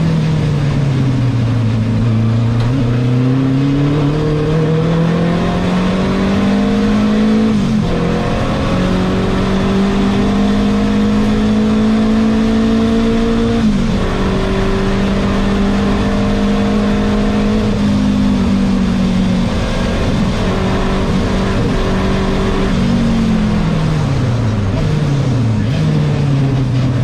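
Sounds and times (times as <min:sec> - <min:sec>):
turbocharged car engine: 0:00.0 - 0:27.0.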